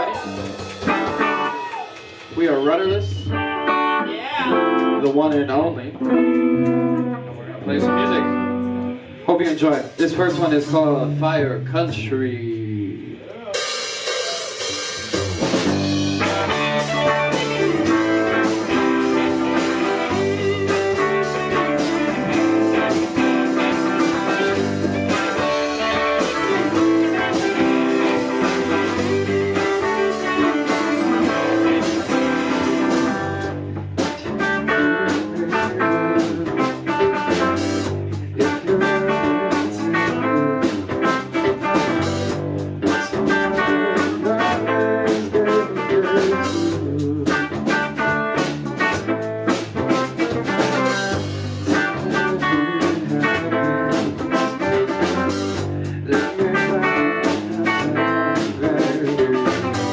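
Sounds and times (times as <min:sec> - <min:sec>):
lead guitar: 0:00.0 - 0:59.9
live rock band: 0:00.0 - 0:59.9.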